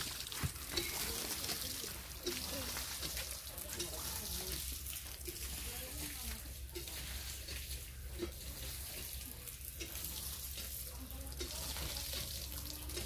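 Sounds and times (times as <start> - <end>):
water splashing from hand pump: 0.0 - 13.0.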